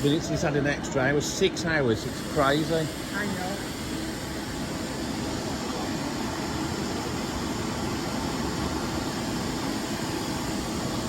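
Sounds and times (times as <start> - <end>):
even hiss: 0.0 - 11.0
train machinery humming: 0.0 - 11.0.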